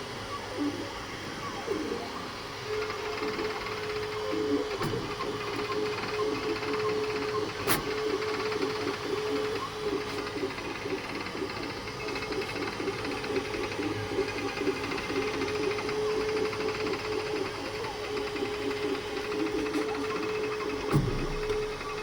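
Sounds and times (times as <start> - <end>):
printer motors whining: 0.0 - 22.0.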